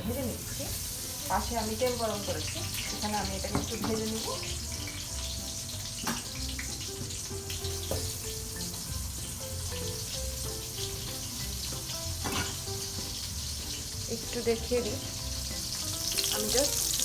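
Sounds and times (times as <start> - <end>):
food deep-frying in hot oil: 0.0 - 17.0
soft background music: 0.0 - 17.0.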